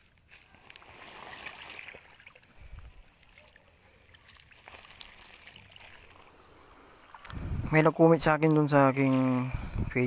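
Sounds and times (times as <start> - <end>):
water sloshing in a tub: 0.0 - 10.0
wet leaves rustling: 0.0 - 10.0.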